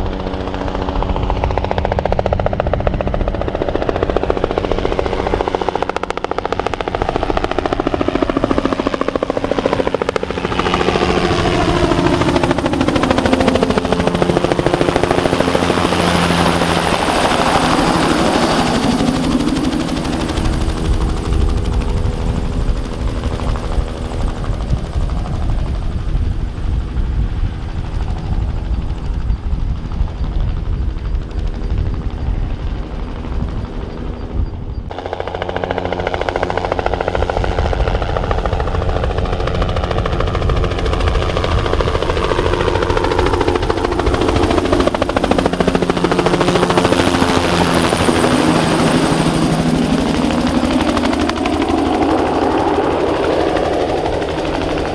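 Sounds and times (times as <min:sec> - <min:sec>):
helicopter rotor and turbine: 0:00.0 - 0:54.9.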